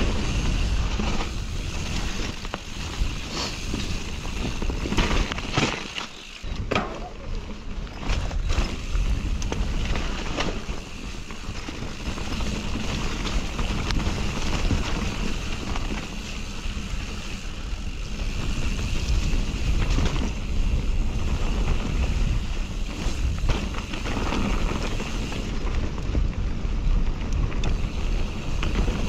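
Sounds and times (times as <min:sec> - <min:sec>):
bike clicks and knocks: 0:00.0 - 0:29.0
tyres rolling over dirt trail: 0:00.0 - 0:29.0.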